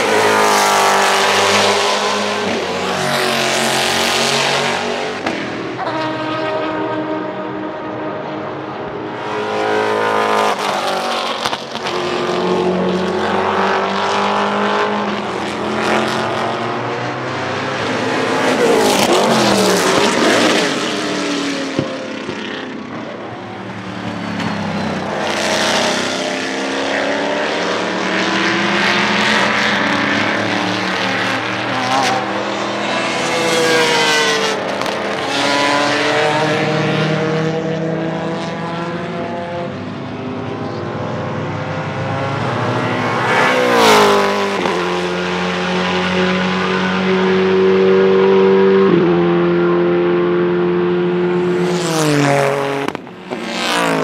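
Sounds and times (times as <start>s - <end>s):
race car revving past: 0.0s - 54.0s.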